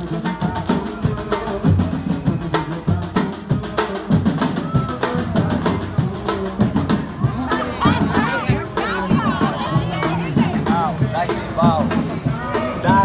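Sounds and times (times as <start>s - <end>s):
drum and percussion music: 0.0s - 13.0s.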